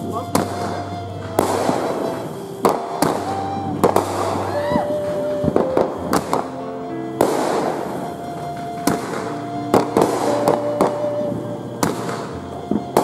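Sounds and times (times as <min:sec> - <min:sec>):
fireworks bursting: 0:00.0 - 0:13.0
music with sustained notes: 0:00.0 - 0:13.0.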